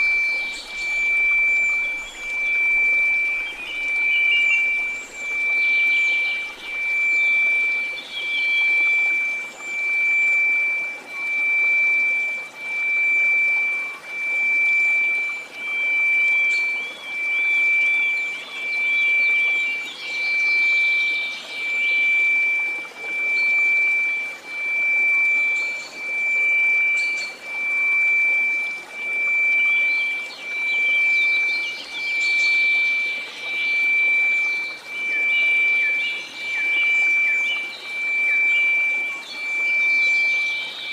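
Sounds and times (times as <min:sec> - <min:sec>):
high sine tone: 0:00.0 - 0:40.9.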